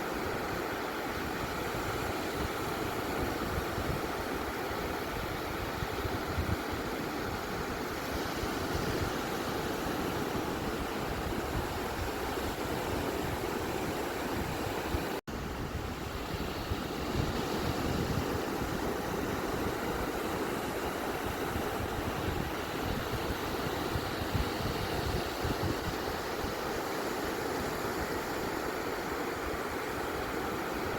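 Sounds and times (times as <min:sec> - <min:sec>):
ocean surf washing on beach: 0:00.0 - 0:30.9.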